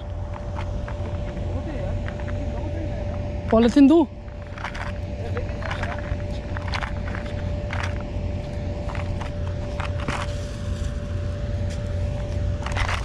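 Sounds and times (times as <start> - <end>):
footsteps on gravel: 0.0 - 3.6, 4.2 - 13.0
faint constant tone: 0.0 - 13.0
low drone: 0.0 - 13.0.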